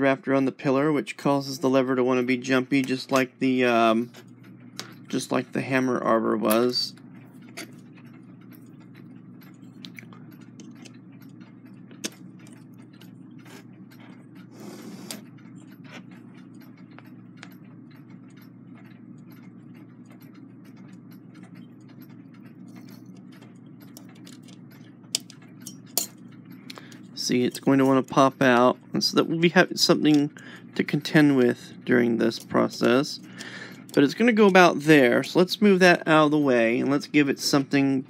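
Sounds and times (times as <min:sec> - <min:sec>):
steady low hum: 0:00.0 - 0:38.0
clock parts clicking and tapping: 0:00.6 - 0:38.0.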